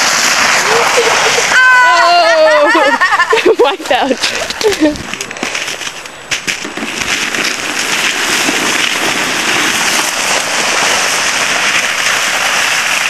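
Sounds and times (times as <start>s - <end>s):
icy snow hissing under sliding: 0.0s - 13.0s.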